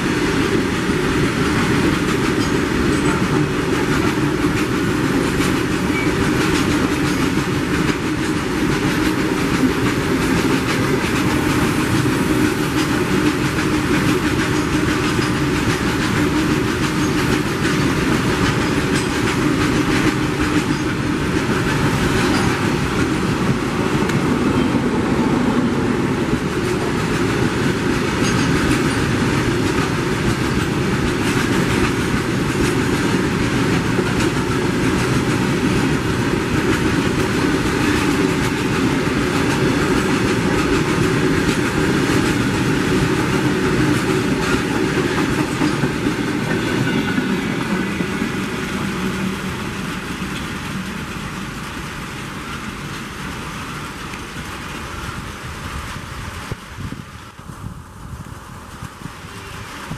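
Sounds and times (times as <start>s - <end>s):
train wagons rattling: 0.0s - 57.5s
train wheels on rails: 0.0s - 59.9s.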